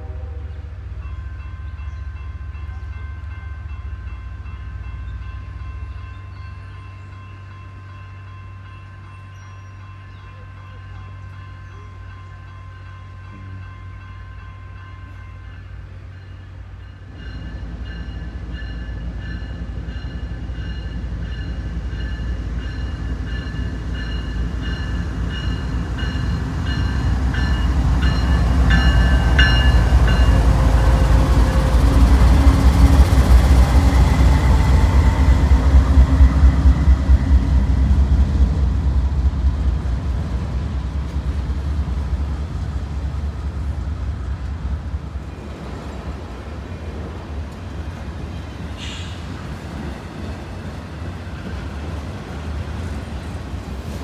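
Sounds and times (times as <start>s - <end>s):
diesel locomotives rumbling: 0.0s - 54.0s
train cars rolling: 9.8s - 54.0s.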